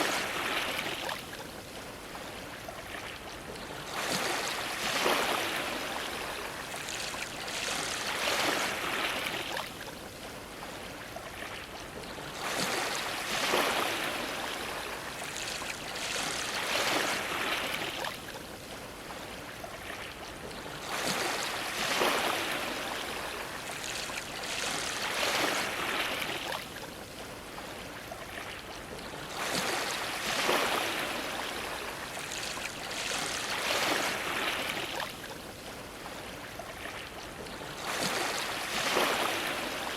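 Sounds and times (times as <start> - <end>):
sea waves washing against dock: 0.0 - 39.9.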